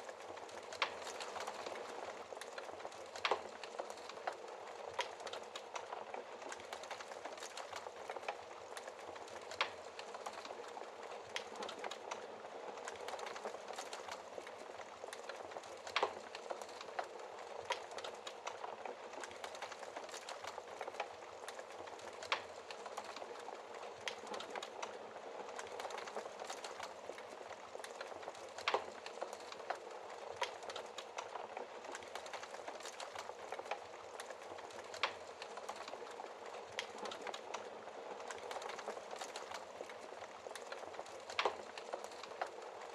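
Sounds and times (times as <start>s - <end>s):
wood fire crackling: 0.0s - 42.9s
fire popping: 0.1s - 42.9s.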